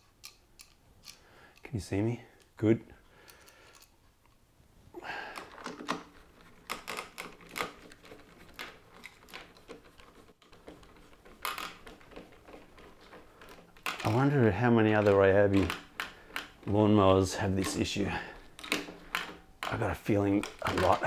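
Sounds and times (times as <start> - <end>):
plastic parts and tools clicking: 0.0 - 1.7, 3.2 - 4.4, 5.0 - 21.0.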